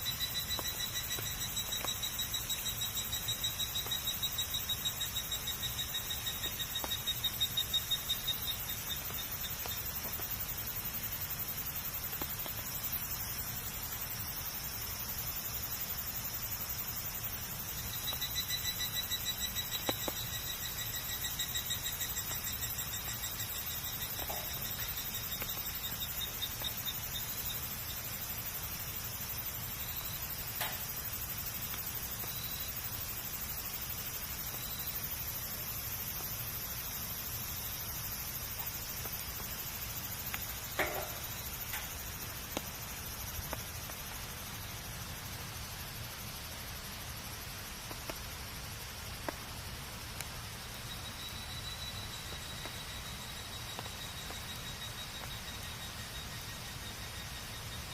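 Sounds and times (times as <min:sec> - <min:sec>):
bonfire hissing: 0:00.0 - 0:57.9.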